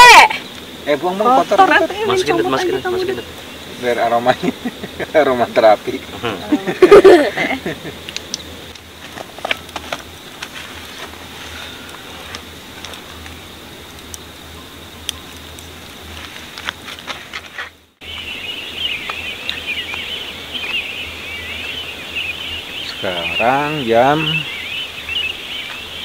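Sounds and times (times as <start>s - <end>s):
birds and insects chirping: 0.0s - 26.0s.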